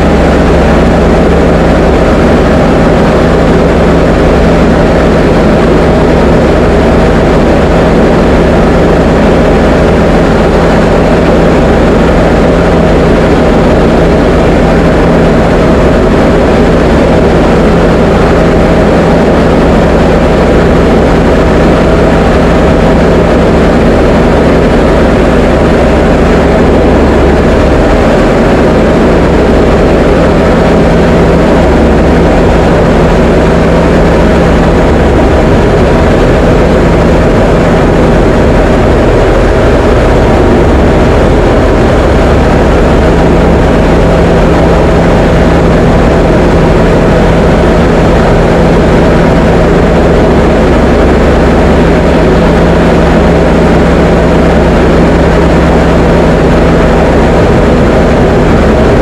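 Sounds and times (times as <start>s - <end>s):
light aircraft engine droning: 0.0s - 59.0s.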